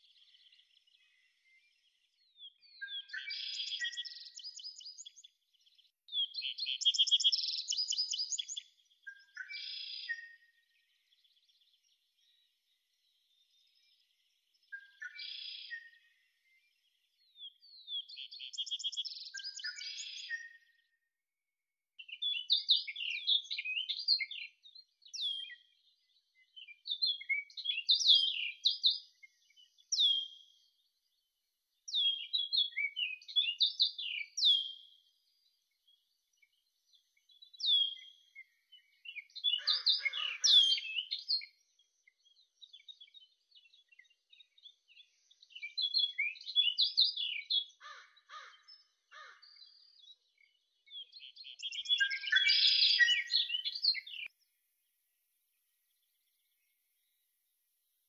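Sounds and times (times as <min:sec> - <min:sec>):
songbird singing: 0:00.0 - 0:21.2, 0:22.0 - 0:58.0.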